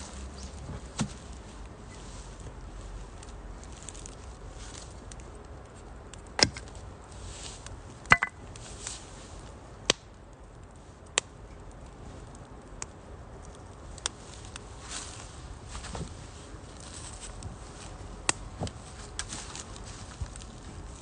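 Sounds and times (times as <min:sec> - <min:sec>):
burning wood popping: 0:00.0 - 0:21.0
fire hissing: 0:00.0 - 0:21.0.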